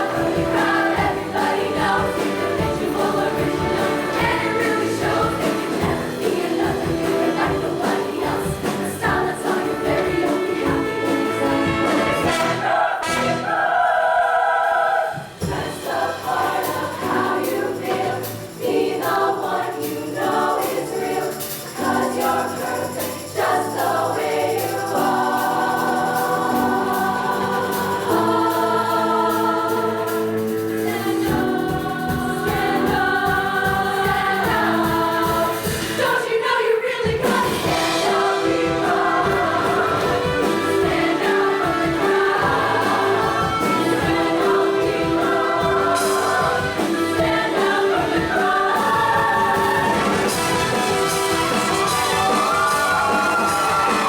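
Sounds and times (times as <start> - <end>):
backing band: 0.0 - 54.0
choir singing: 0.0 - 54.0.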